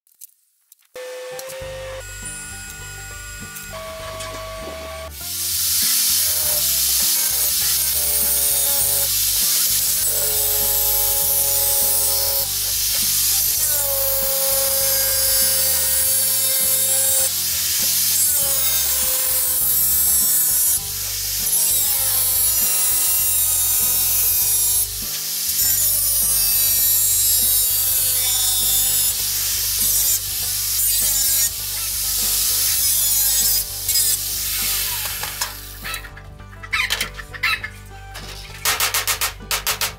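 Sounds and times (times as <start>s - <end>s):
angle grinder cutting metal: 1.0s - 36.0s.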